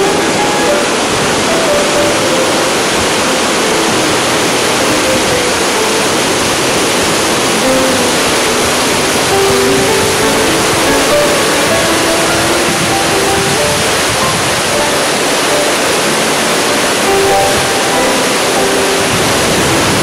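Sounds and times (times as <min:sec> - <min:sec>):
faint soft music: 0:00.0 - 0:20.0
waterfall rushing: 0:00.0 - 0:20.0.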